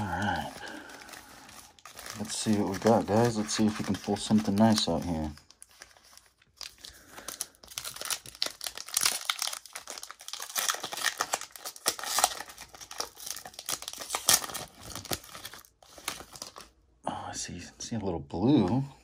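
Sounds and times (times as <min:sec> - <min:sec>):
foil wrapper crinkling: 0:00.0 - 0:16.7.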